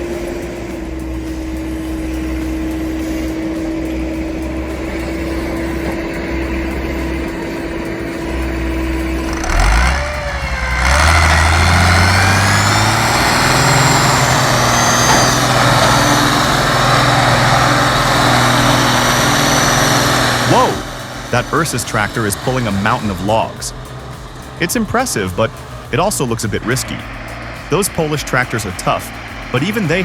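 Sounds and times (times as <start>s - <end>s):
machine running: 0.0s - 30.0s
tractor diesel engine revving: 0.0s - 30.0s.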